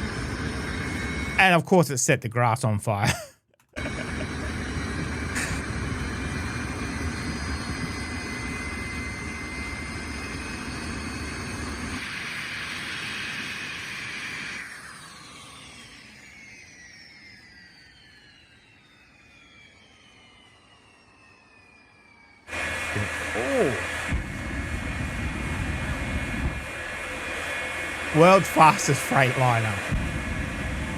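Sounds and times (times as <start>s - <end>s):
jet engine roaring: 0.0s - 1.7s, 3.8s - 30.9s.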